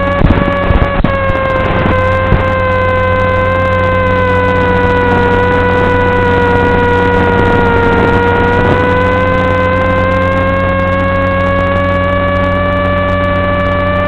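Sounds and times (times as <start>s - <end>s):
electric motor and propeller whine: 0.0s - 14.0s.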